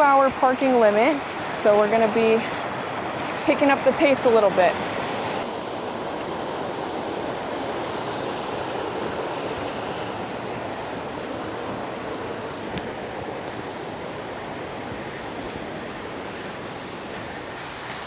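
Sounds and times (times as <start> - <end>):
fast-flowing water rushing: 0.0 - 18.0.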